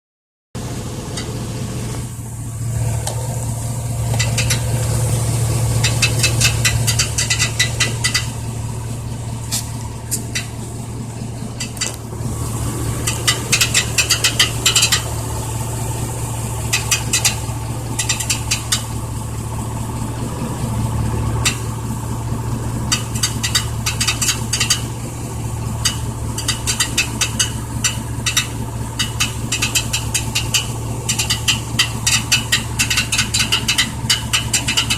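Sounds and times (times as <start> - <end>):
truck engine humming: 0.6 - 34.9
rapid metallic rattle: 3.2 - 34.9.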